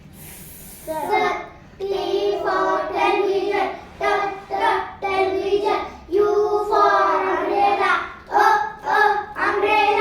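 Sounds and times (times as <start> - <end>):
children chanting in unison: 0.9 - 10.0.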